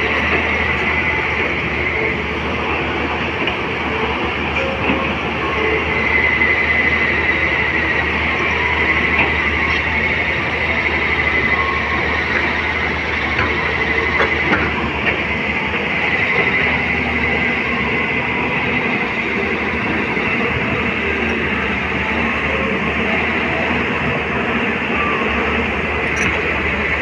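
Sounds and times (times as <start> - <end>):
machine running with high whine: 0.0 - 27.0.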